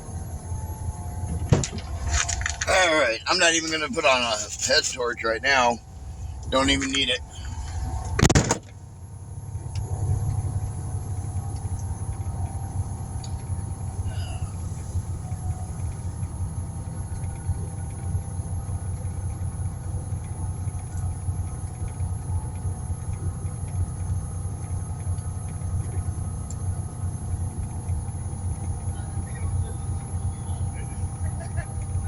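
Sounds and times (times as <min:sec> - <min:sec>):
engine rumbling: 0:00.0 - 0:32.0.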